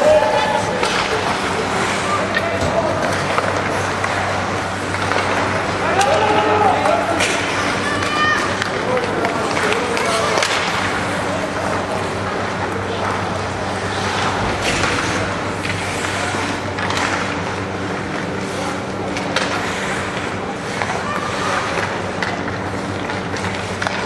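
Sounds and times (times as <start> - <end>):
hockey sticks and puck clacking: 0.0 - 24.0
skate blades scraping ice: 0.0 - 24.0
steady low hum: 0.0 - 24.0.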